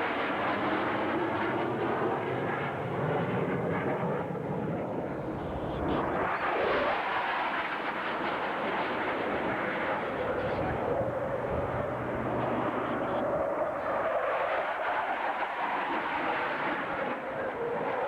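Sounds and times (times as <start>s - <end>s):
airplane engine flying past: 0.0s - 18.0s.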